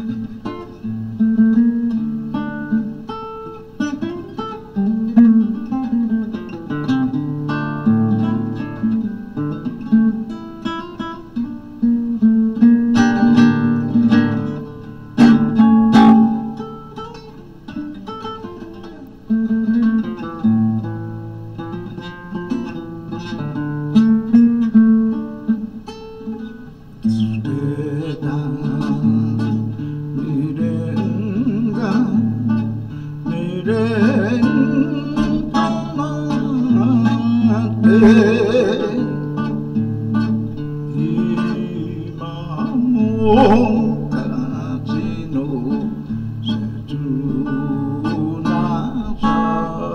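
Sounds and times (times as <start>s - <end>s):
fingerstyle classical guitar: 0.0s - 49.9s.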